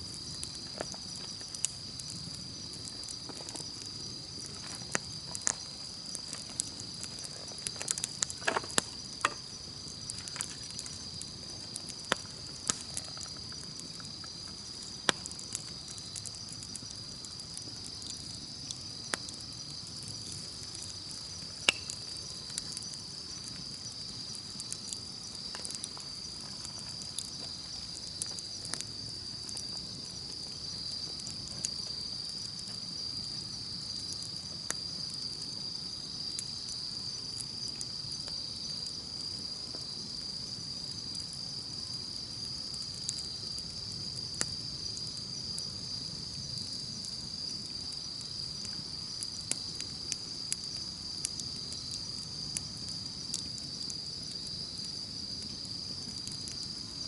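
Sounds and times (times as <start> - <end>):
campfire crackling and popping: 0.0 - 57.0
insect chorus: 0.0 - 57.0.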